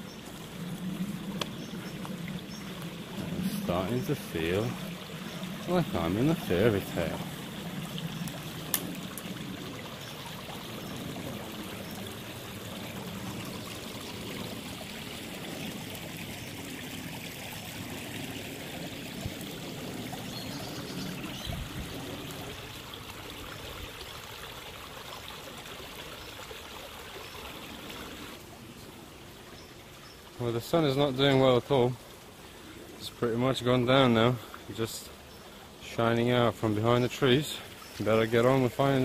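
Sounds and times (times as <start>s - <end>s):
stream water trickling: 0.0s - 39.0s.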